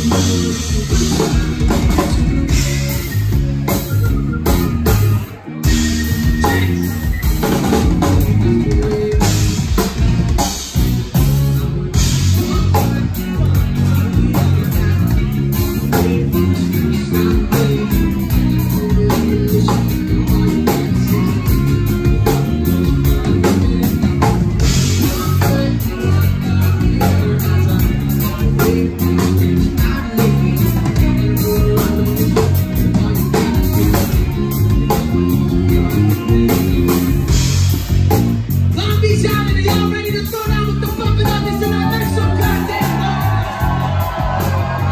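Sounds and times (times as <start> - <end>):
person singing: 0.0 - 37.6, 38.7 - 44.9
bass guitar: 0.0 - 44.9
drum kit beat: 0.0 - 44.9
electric guitar: 0.0 - 44.9.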